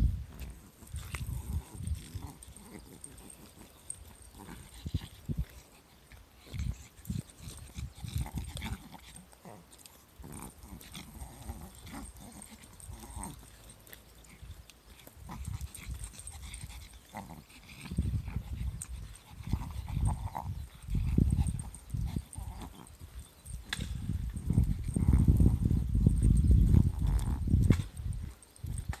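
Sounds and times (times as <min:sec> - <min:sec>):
dog moving on path: 0:00.3 - 0:29.0.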